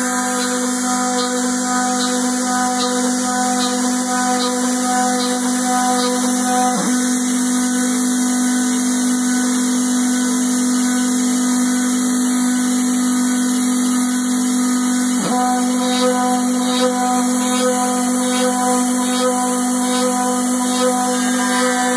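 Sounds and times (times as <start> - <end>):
milling machine motor whine: 0.0 - 21.9.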